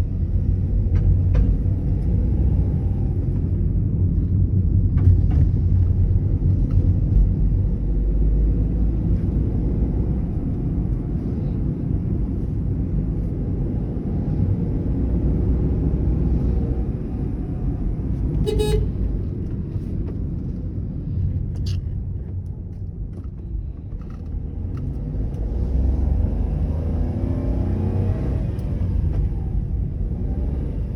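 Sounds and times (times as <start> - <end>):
car engine and road rumble: 0.0 - 30.9.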